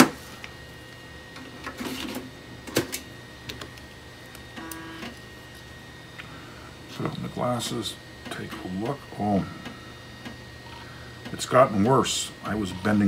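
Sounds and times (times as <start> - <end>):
floppy drive buzzing: 0.0 - 13.0.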